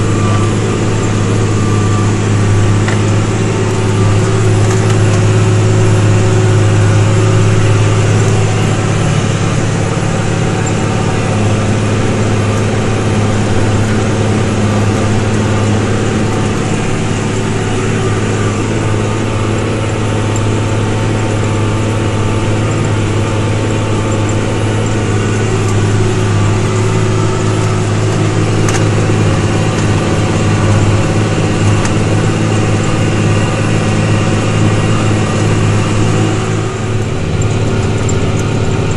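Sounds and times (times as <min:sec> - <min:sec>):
tractor diesel engine droning: 0:00.0 - 0:38.9.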